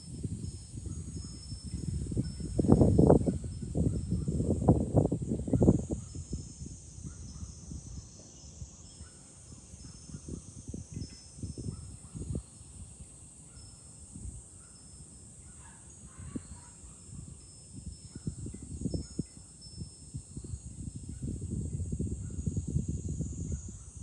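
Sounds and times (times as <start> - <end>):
cicadas shrilling: 0.0 - 24.0
wind buffeting microphone: 0.0 - 24.0.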